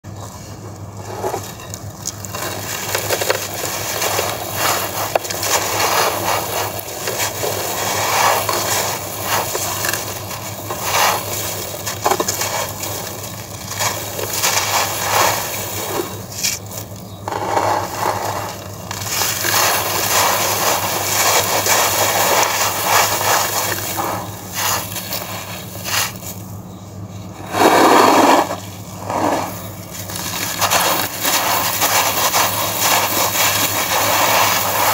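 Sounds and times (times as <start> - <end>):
sand blocks crunching: 0.1 - 34.9
grit pouring: 1.0 - 26.5, 27.4 - 34.9.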